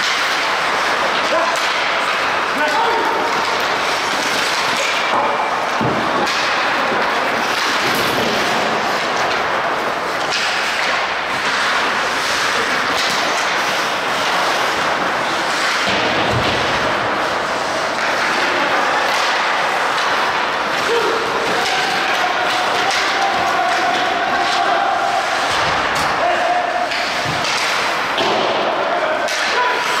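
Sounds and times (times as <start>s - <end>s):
skates scraping on ice: 0.0s - 30.0s.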